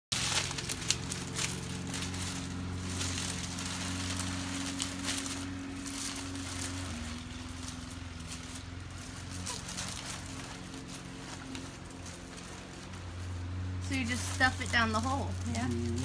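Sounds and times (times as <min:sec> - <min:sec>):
dry thatch crackling and rustling: 0:00.1 - 0:16.0
low mechanical hum: 0:00.1 - 0:16.0.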